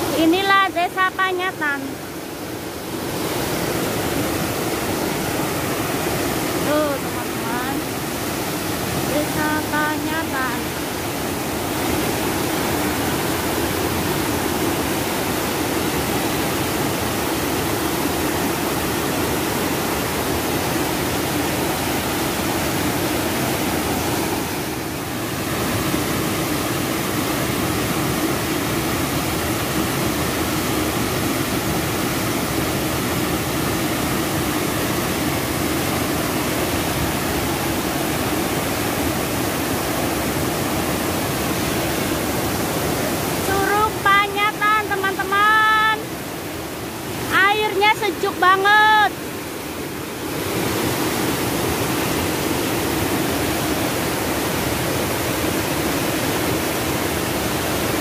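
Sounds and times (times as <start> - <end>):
waterfall rushing onto rocks: 1.8 - 44.0, 49.1 - 58.0.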